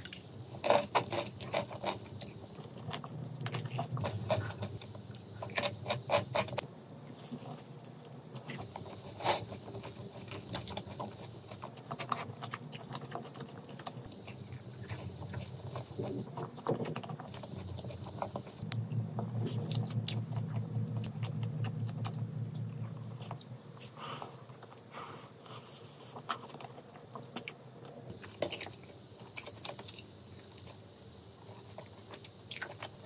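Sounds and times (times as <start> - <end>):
crunchy chewing of fried chicken: 0.0 - 33.0.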